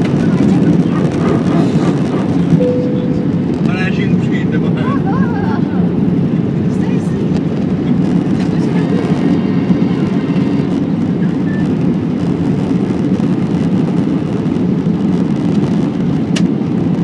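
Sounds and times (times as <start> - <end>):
airflow over the fuselage: 0.0 - 17.0
jet engines rushing in a cabin: 0.0 - 17.0.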